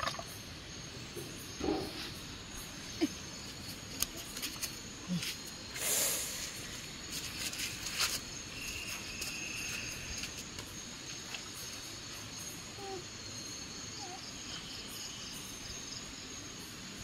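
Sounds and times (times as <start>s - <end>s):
night insects calling: 0.0s - 17.0s.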